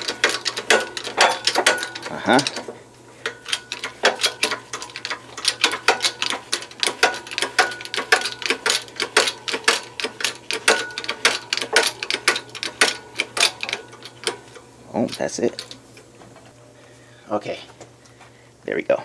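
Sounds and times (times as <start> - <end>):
hand pump clicking: 0.0 - 15.8.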